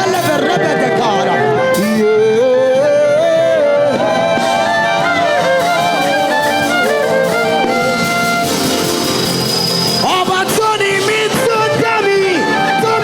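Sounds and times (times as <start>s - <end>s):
live worship band music: 0.0s - 13.0s.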